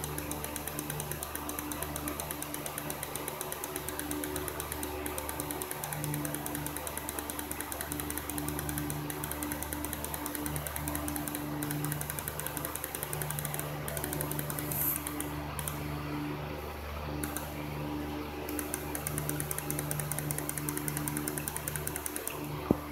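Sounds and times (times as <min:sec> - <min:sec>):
fast fine ticking: 0:00.0 - 0:15.8, 0:18.5 - 0:22.5
low machine hum: 0:00.0 - 0:22.9.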